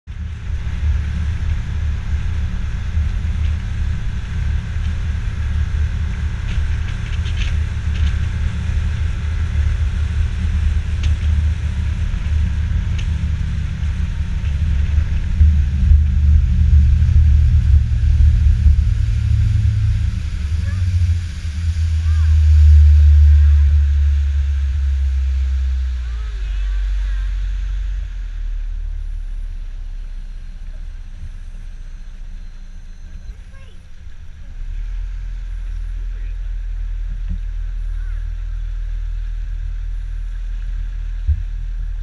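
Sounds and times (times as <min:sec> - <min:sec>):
boat engine rumble: 0:00.0 - 0:42.0
wind: 0:00.0 - 0:42.0
water: 0:00.1 - 0:42.0.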